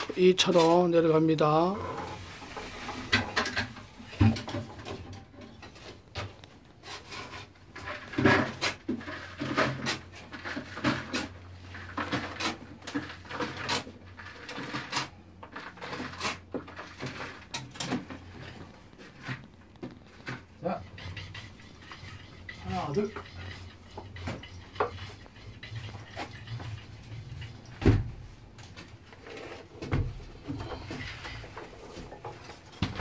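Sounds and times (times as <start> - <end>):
digging tools knocking and scraping: 1.9 - 33.0.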